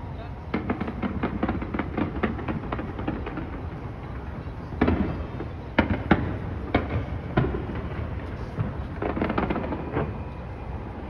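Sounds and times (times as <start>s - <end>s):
fireworks rumble and crackling: 0.0s - 11.0s
firework bangs: 0.4s - 11.0s.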